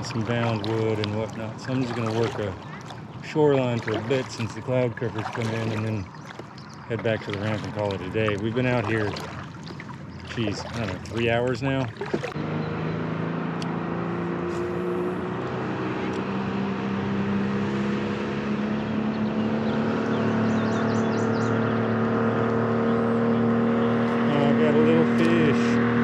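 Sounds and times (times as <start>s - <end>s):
motor engine running: 0.0s - 17.2s, 18.4s - 26.0s.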